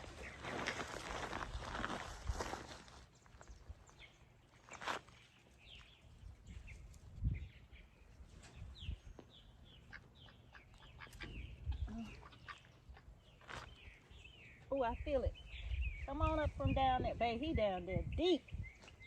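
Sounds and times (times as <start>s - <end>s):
birds chirping: 0.0s - 1.1s, 3.1s - 19.0s.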